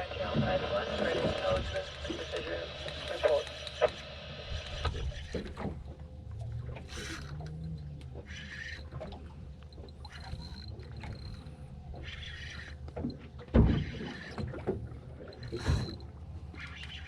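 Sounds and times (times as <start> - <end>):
boat motor humming: 0.0 - 17.0
water splashing against hull: 0.0 - 17.0.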